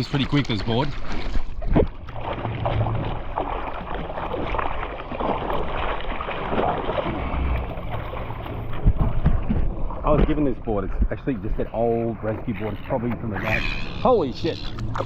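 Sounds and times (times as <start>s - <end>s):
water splashing from paddling: 0.0s - 15.0s.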